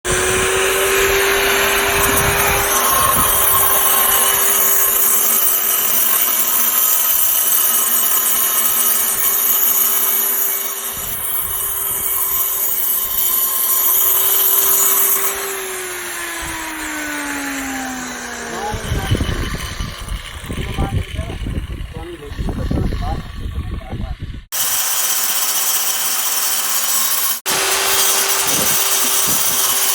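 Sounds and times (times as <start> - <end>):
angle grinder cutting concrete: 0.0 - 29.9.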